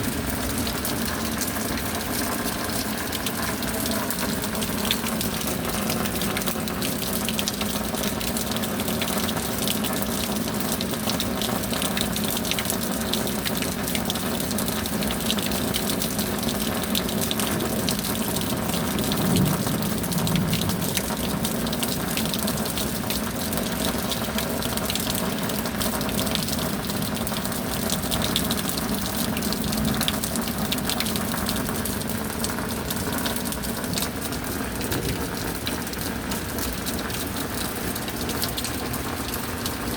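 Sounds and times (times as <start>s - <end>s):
steady rain: 0.0s - 39.9s
water gushing and running: 0.0s - 39.9s.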